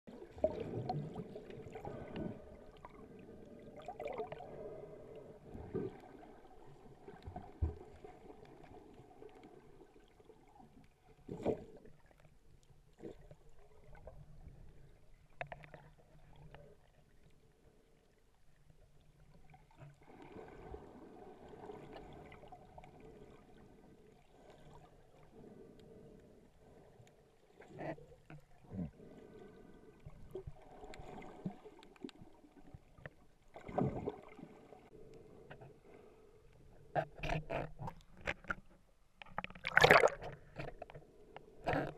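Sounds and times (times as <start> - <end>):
muffled underwater sloshing: 0.1 - 41.9.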